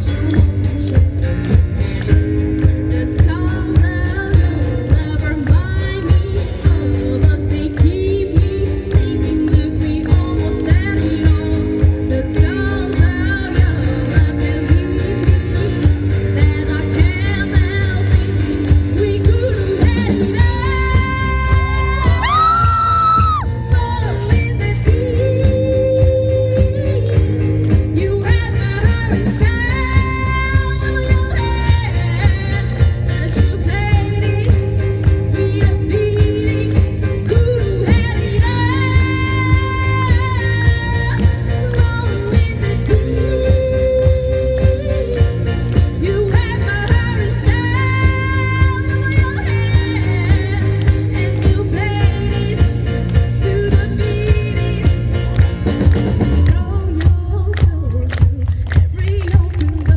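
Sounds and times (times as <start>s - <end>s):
rock band playing: 0.0s - 57.1s
woman singing: 0.0s - 59.9s.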